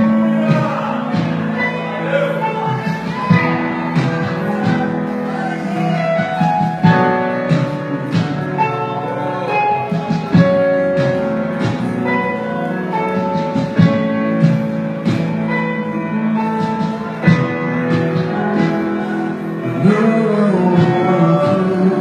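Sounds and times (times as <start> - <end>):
instrumental guitar worship music: 0.0 - 22.0.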